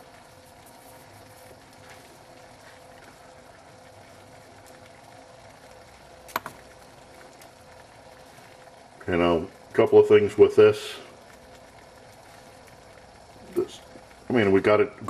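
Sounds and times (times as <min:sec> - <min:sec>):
water boiling in metal cup: 0:00.0 - 0:15.0.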